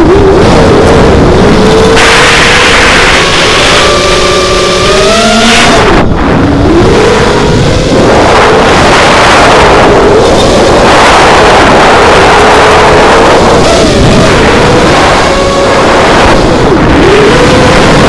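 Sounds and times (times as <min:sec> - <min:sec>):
drone propellers whining: 0:00.0 - 0:18.0
wind noise: 0:00.0 - 0:18.0.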